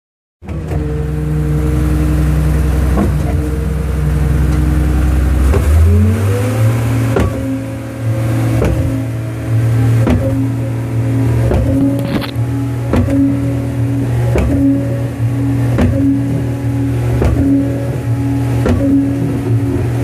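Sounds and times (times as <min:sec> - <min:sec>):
mixer engine running: 0:00.4 - 0:20.0
mixing paddles clanking: 0:00.4 - 0:20.0.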